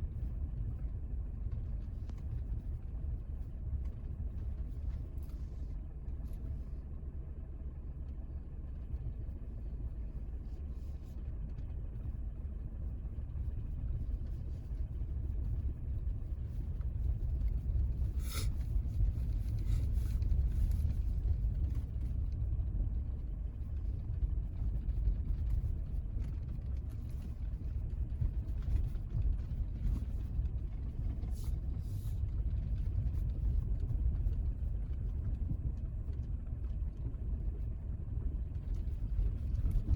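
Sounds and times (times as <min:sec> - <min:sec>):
car driving on unpaved road: 0:00.0 - 0:39.9.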